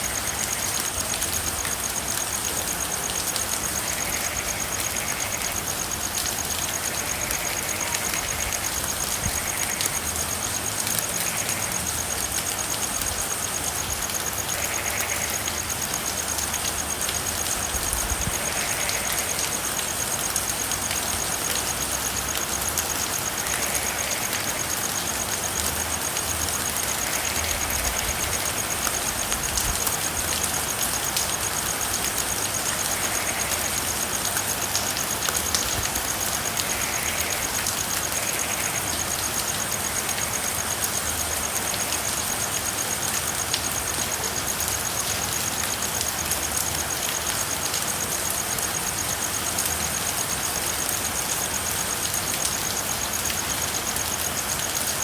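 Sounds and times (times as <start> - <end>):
frog calls: 0.0 - 55.0
rain falling: 0.0 - 55.0.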